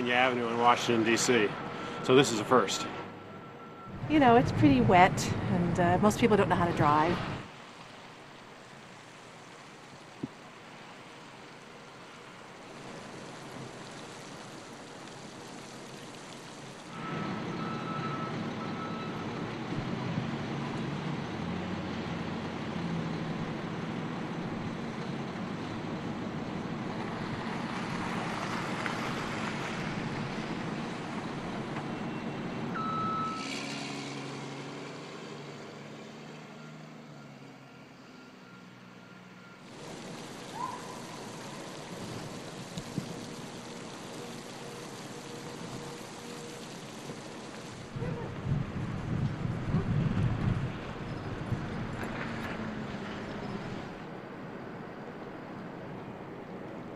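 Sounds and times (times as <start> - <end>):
traffic noise: 0.0 - 56.9.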